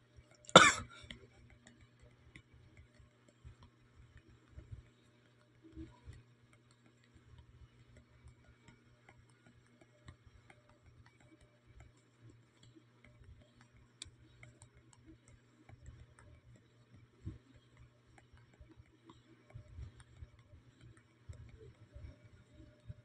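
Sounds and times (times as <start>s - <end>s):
faint low hum: 0.0s - 23.0s
soft ticks and clicks: 0.0s - 23.0s.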